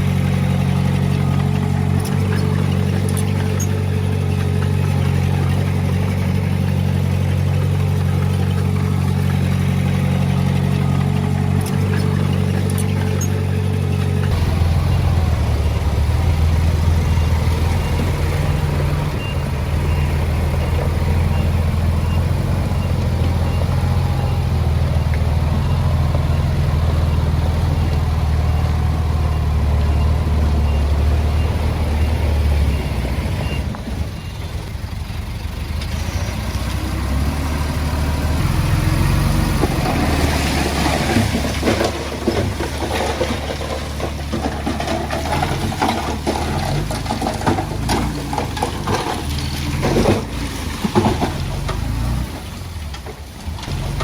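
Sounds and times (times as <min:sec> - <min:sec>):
metal clattering and clanking: 0:00.0 - 0:30.9, 0:39.5 - 0:54.0
heavy diesel engine running: 0:00.0 - 0:54.0.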